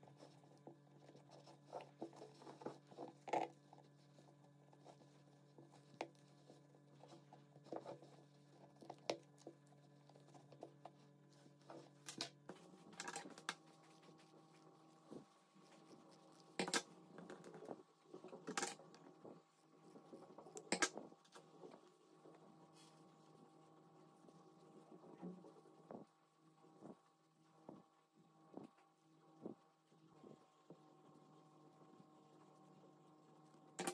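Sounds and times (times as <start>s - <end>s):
small clicks and rustles: 0.0s - 33.9s.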